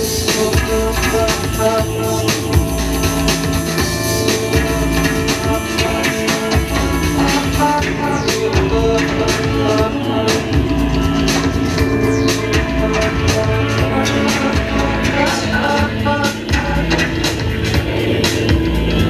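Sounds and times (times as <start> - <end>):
steady electronic beat: 0.0 - 19.0.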